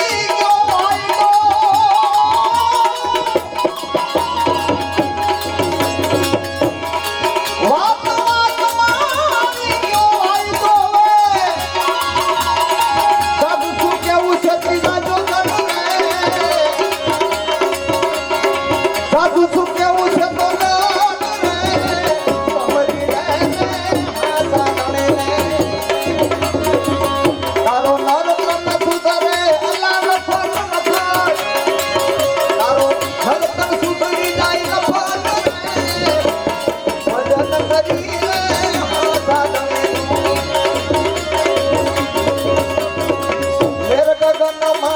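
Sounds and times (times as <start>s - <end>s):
tabla rhythm: 0.0s - 44.9s.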